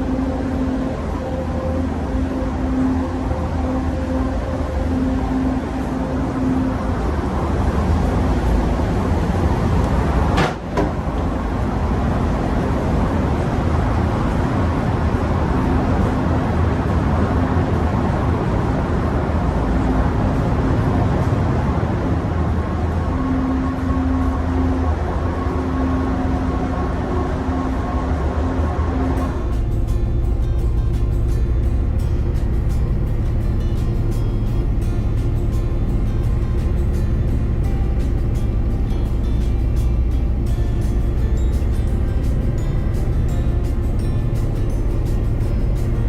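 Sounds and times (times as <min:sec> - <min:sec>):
low engine rumble: 0:00.0 - 0:46.0.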